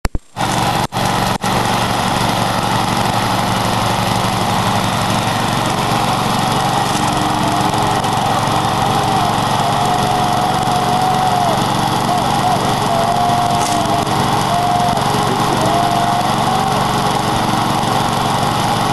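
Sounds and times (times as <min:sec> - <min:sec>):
lawn mower engine running: 0:00.1 - 0:18.9
faint wavering whine: 0:01.6 - 0:18.9.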